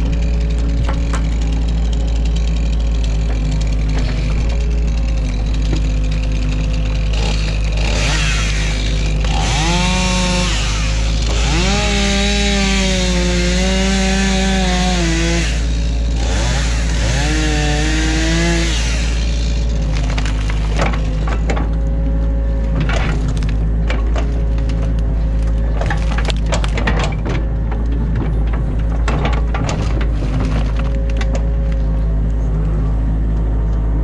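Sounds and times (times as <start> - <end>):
loud pitched whine and rasp: 0.0 - 33.8
excavator diesel engine running: 0.0 - 34.0.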